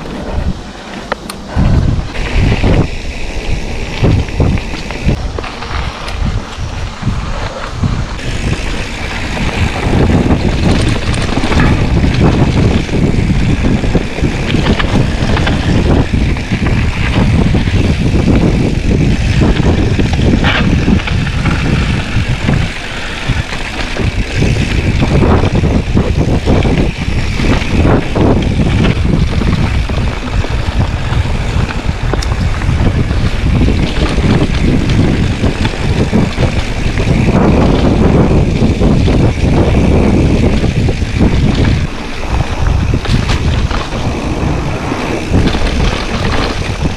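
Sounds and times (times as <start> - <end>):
bike knocks and rattles: 0.0 - 46.9
bike tyre noise: 0.0 - 46.9
wind on microphone: 0.0 - 46.9.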